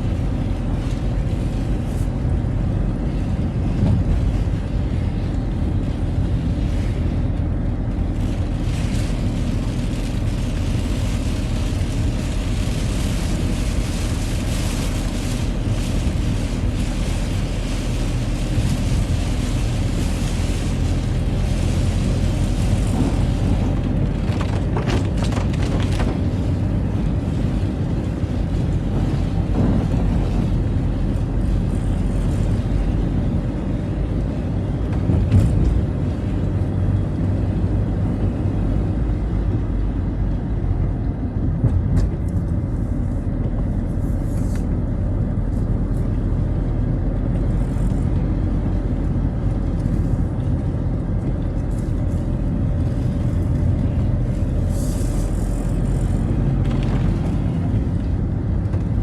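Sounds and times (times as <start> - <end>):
tyres hissing on wet road: 0.0 - 41.2, 42.6 - 58.7
car engine and road rumble: 0.0 - 59.0.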